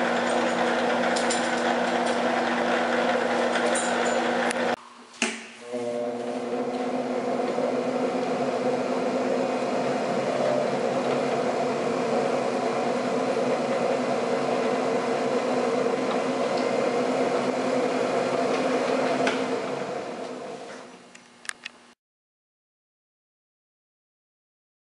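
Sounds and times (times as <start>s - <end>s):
machine motor hum and whine: 0.0s - 4.8s, 5.6s - 20.9s.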